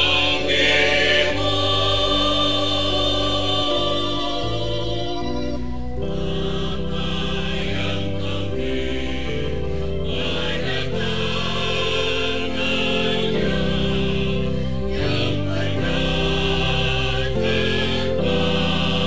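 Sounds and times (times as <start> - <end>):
church choir singing in parts: 0.0 - 19.0.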